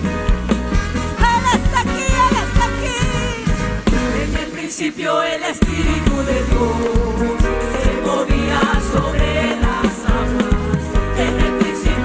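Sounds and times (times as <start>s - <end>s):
worship band with drums and bass: 0.0s - 12.0s.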